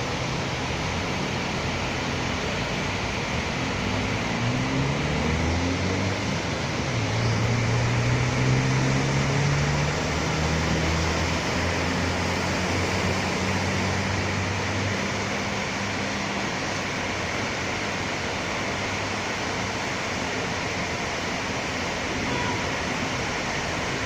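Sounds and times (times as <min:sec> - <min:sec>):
passing vehicle engine hum: 0:00.0 - 0:24.0
rain on a street: 0:00.0 - 0:24.0.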